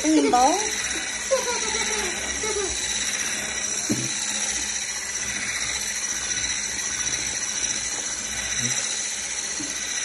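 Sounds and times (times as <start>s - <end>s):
electric whisk beating batter: 0.0s - 10.0s.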